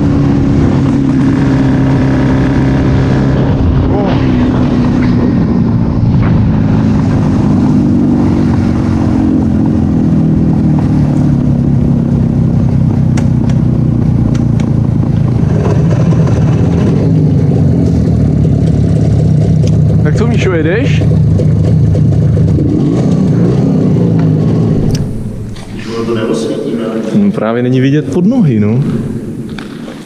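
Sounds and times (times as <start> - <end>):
motorcycle engine running: 0.0 - 26.3.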